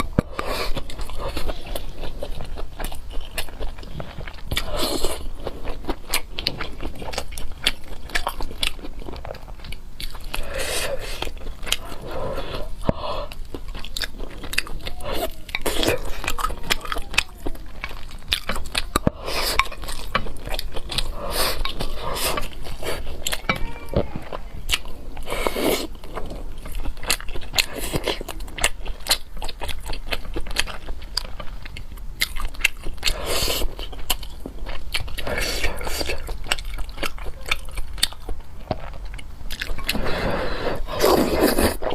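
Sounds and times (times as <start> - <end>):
person chewing and biting: 0.0 - 41.9.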